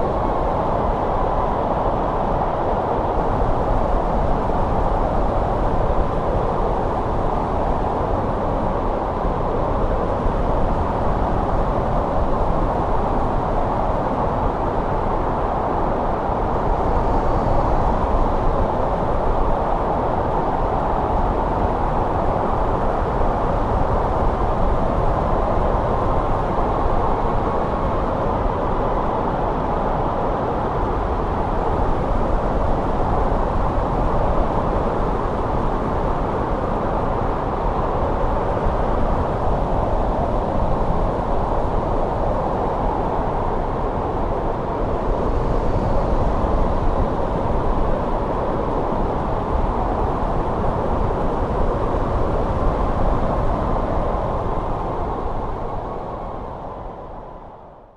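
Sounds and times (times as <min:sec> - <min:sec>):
wind blowing: 0:00.0 - 0:57.9.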